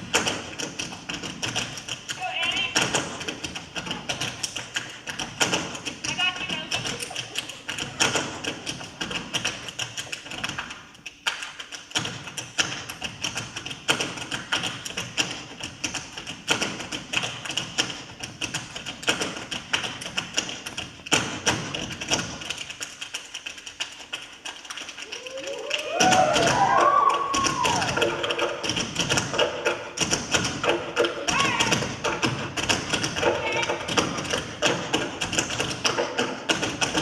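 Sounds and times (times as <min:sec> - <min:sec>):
dancers' feet tapping: 0:00.0 - 0:37.0.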